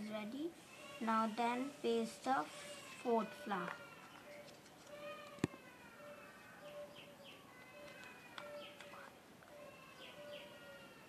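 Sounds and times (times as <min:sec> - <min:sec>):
faint birdsong: 0:00.1 - 0:11.0.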